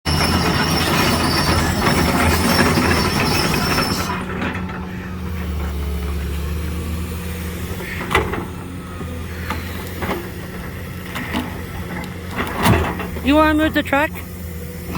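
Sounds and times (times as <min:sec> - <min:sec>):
engine running steadily: 0:00.1 - 0:14.9.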